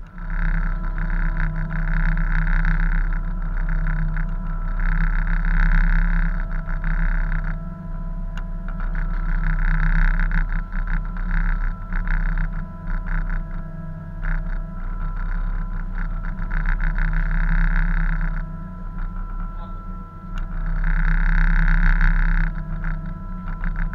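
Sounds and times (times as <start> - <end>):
boat engines droning: 0.0 - 23.9.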